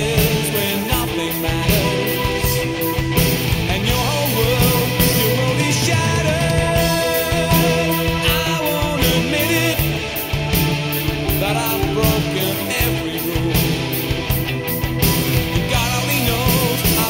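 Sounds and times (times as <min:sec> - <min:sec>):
soft rock band playing: 0:00.0 - 0:17.0
steady drum beat: 0:00.0 - 0:17.0.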